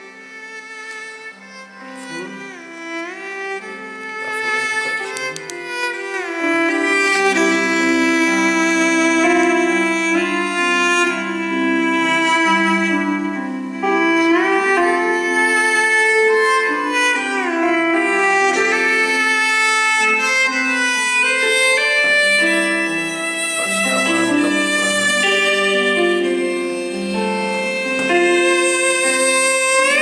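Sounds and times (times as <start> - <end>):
violin-like instrumental music: 0.0 - 30.0.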